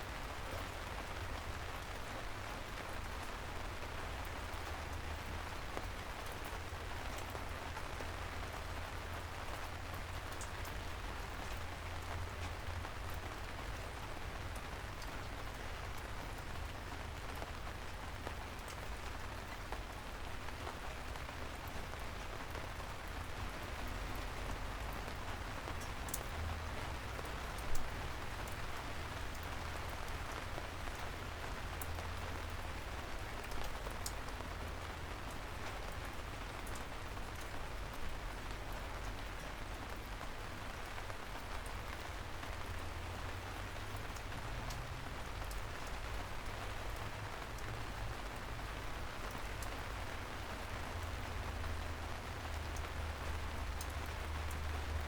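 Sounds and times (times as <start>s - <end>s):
soft rain on city streets: 0.0s - 55.0s.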